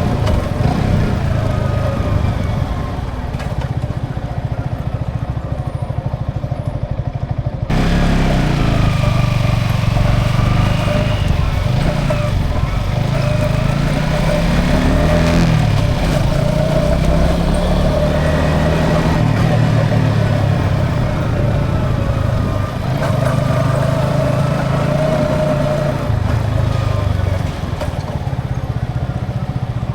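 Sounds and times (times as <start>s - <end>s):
motorcycle engine running: 0.0s - 29.9s
road and wind noise: 0.0s - 29.9s.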